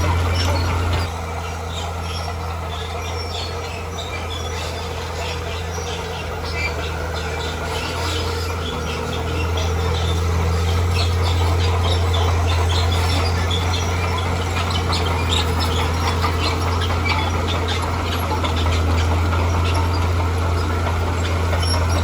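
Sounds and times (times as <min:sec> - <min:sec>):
diesel engine of earthmoving machine: 0:00.0 - 0:22.0.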